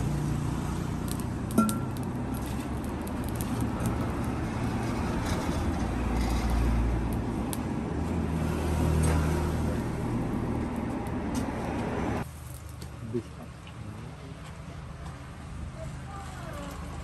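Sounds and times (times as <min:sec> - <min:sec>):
burning charcoal crackling: 0:00.0 - 0:17.0.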